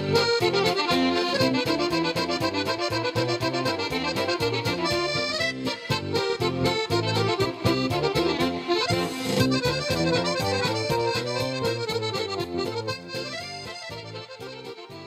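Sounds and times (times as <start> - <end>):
accordion music with bass beat: 0.0 - 15.0.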